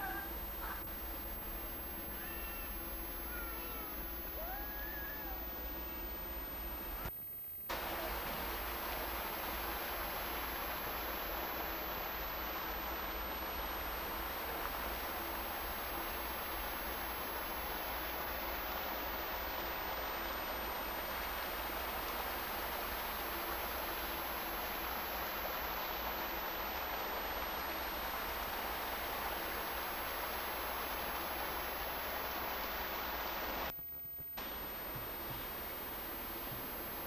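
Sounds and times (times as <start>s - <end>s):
faint low hum: 0.0s - 37.0s
recording hiss: 0.0s - 37.0s.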